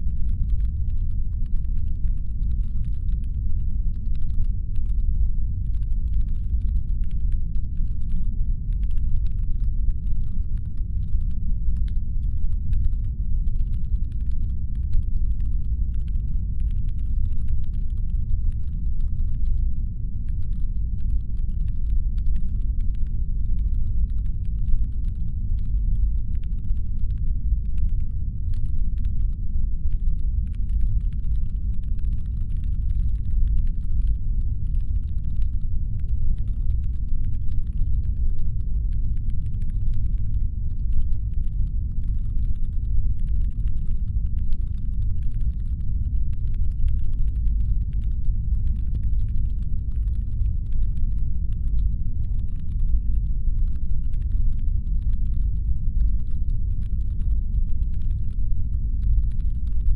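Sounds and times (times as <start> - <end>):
deep engine hum rumble: 0.0 - 59.9
faint irregular clicking: 0.0 - 59.9.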